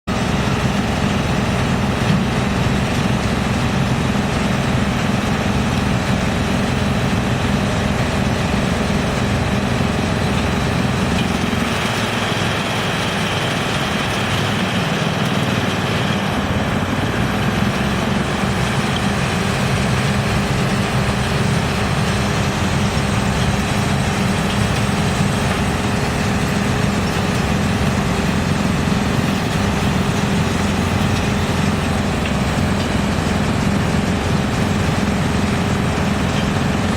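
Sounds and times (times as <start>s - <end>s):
wood chipper droning: 0.1s - 36.9s.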